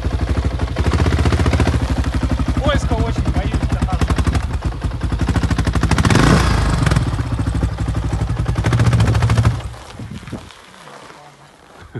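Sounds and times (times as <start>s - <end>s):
single-cylinder engine running: 0.0s - 11.6s.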